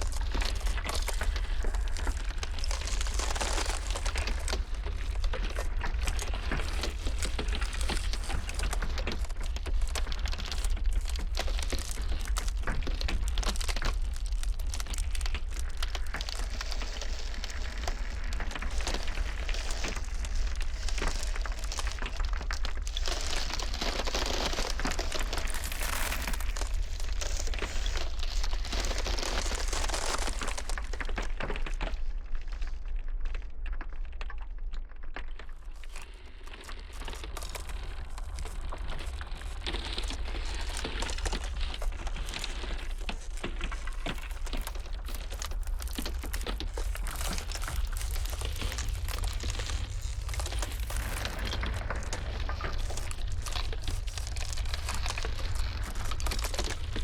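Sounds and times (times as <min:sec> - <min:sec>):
blizzard wind rumble: 0:00.0 - 0:32.4, 0:36.1 - 0:57.0
ice cracking and crackling: 0:00.0 - 0:57.0.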